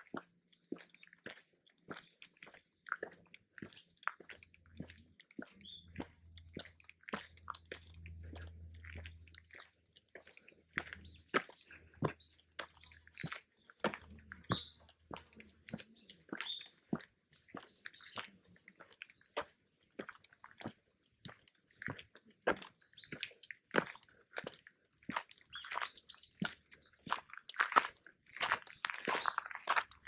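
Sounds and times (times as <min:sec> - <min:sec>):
footsteps on forest trail: 0:00.0 - 0:30.0
small birds chirping: 0:00.0 - 0:30.0.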